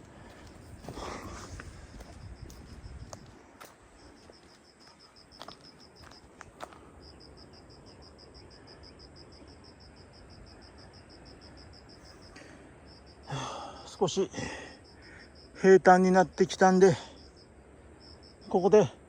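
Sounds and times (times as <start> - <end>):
insect chirping in fast pulses: 0.6 - 19.0.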